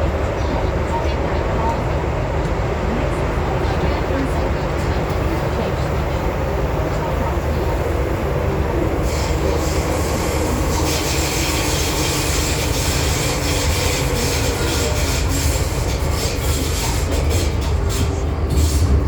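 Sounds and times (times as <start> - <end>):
train rumbling through tunnel: 0.0 - 19.0.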